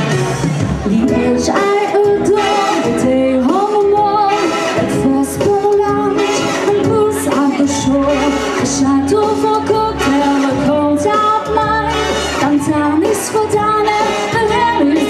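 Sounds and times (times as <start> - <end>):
instrumental backing music: 0.0 - 15.0
woman singing: 0.8 - 15.0.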